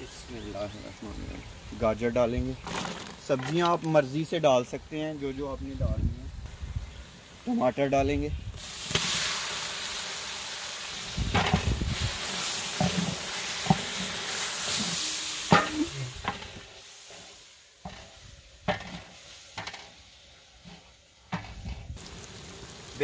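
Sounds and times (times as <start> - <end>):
onion and tomato sizzling in oil: 0.0 - 23.0.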